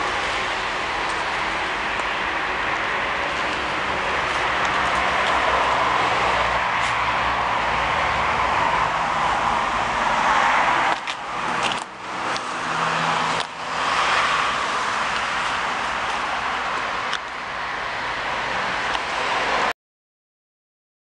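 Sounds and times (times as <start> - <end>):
road traffic rushing: 0.0 - 19.8.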